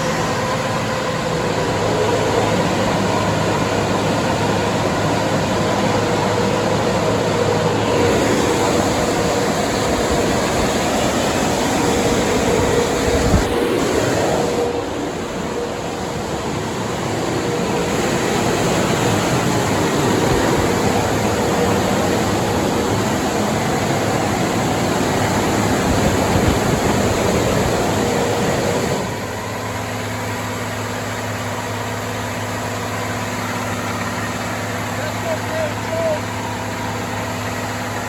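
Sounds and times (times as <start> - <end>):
diesel truck engine under load: 0.0 - 38.0.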